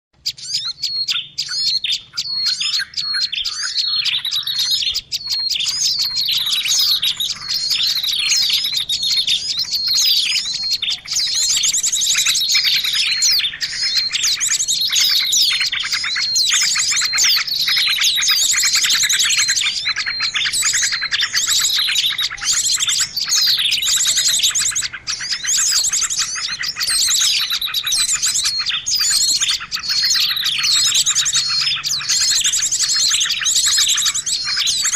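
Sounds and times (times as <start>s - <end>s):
chorus of small birds chirping: 0.2s - 34.9s.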